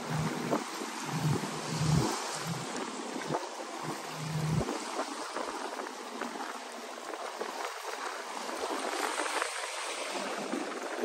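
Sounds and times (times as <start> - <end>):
small waves washing over rocks: 0.0 - 11.0.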